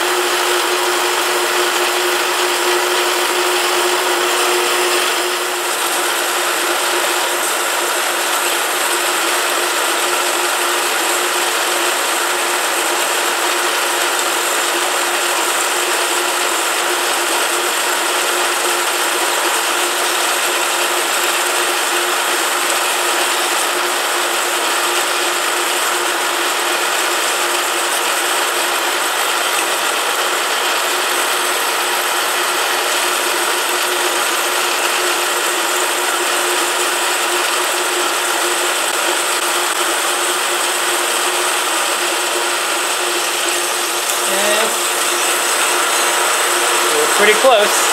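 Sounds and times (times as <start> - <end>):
bandsaw drive hum: 0.0 - 47.9.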